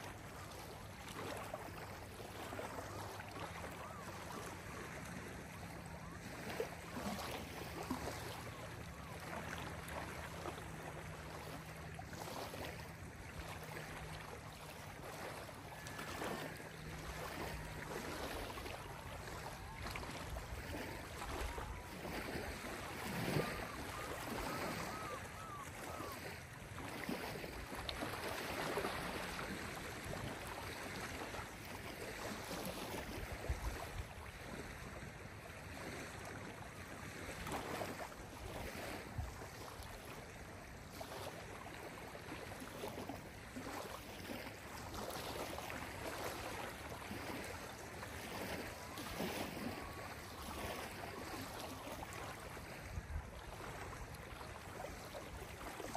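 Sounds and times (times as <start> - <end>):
waves lapping on gravel: 0.0 - 55.9.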